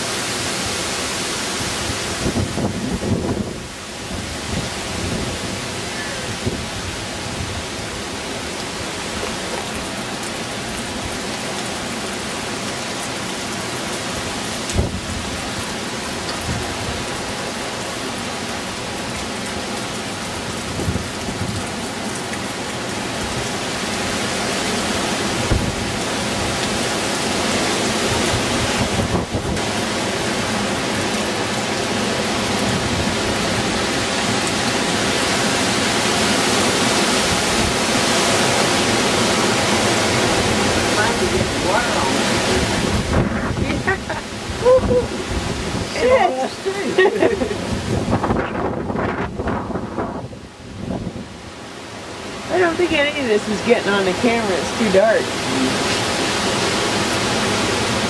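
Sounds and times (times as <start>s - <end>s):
driving rain: 0.0s - 58.0s
hurricane wind: 0.0s - 58.0s.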